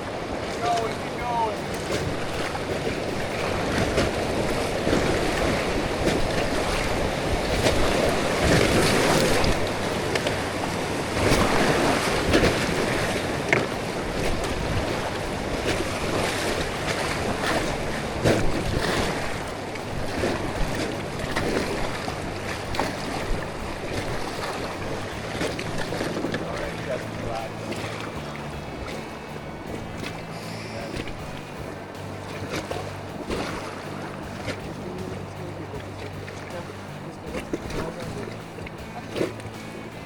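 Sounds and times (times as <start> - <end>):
river water rushing: 0.0 - 40.0
sharp water splashes: 0.0 - 40.0
wind buffeting microphone: 0.0 - 40.0.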